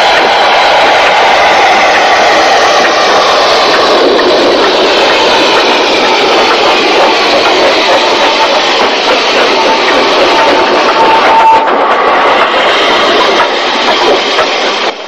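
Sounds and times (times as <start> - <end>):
steam locomotive rushing steam: 0.0 - 15.0.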